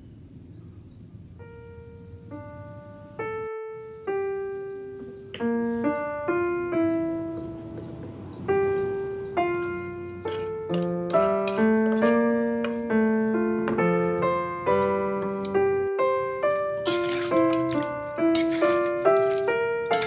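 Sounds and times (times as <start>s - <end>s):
slow piano melody: 0.5s - 20.0s.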